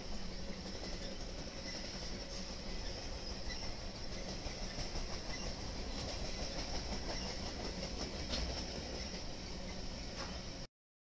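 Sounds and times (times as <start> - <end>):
freight train wheels rumbling: 0.0 - 10.7.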